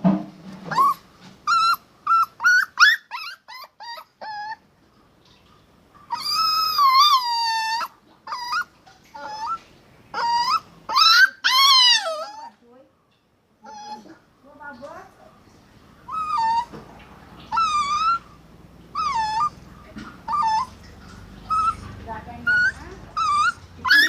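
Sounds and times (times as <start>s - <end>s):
dog whining and yelping: 0.6s - 4.7s, 6.0s - 12.6s, 13.6s - 14.3s, 16.0s - 24.0s.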